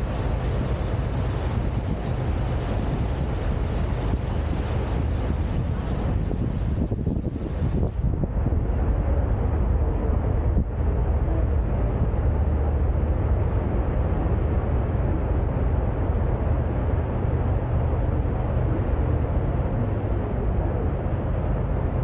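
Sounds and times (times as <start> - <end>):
boat engine drone: 0.0 - 22.0
wind on microphone: 0.0 - 22.0.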